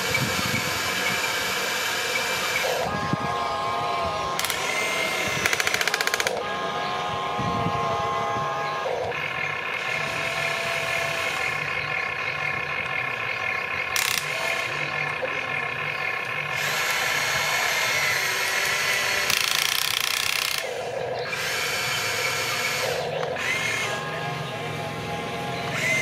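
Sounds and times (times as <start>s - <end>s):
electric gear motors whining: 0.0s - 26.0s.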